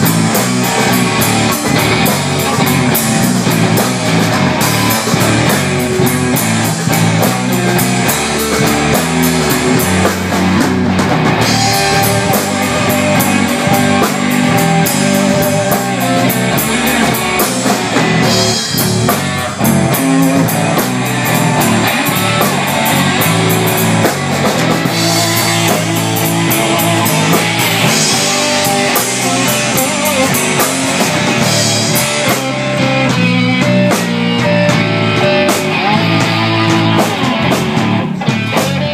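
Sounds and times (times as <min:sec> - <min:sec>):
drum kit beat: 0:00.0 - 0:38.9
electric bass: 0:00.0 - 0:38.9
electric resonator guitar: 0:00.0 - 0:38.9.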